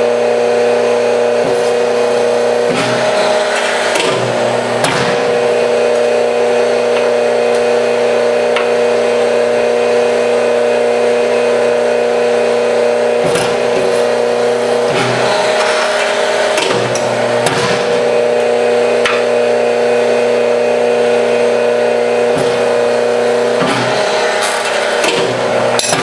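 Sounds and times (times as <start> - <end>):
hydraulic press pump hum: 0.0 - 26.0.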